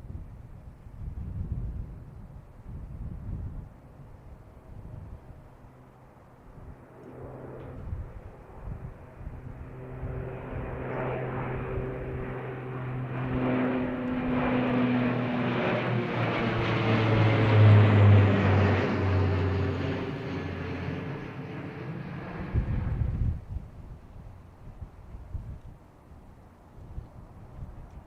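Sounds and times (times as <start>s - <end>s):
plane engine roar: 0.0s - 28.0s.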